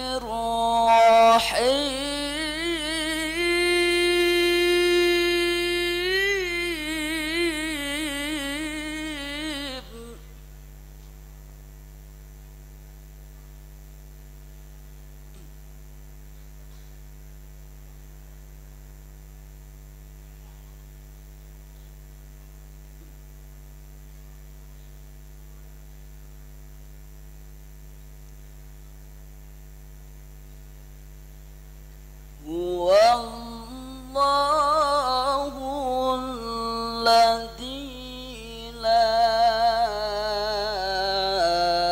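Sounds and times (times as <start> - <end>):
electrical mains hum: 0.0 - 41.9.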